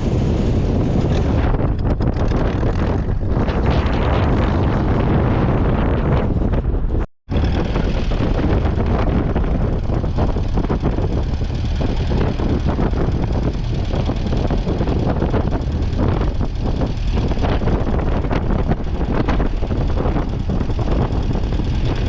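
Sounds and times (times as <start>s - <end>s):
tractor engine running under load: 0.1s - 3.7s, 7.3s - 22.0s.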